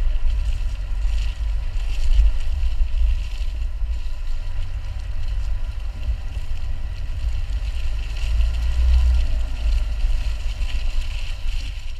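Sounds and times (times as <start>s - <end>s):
car driving over wet grass: 0.0s - 11.9s.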